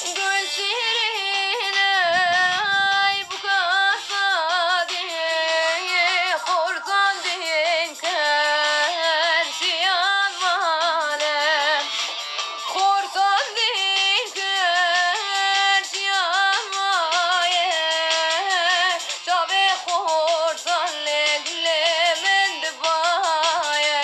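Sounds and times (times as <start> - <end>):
woman singing: 0.0 - 12.0, 12.7 - 24.0.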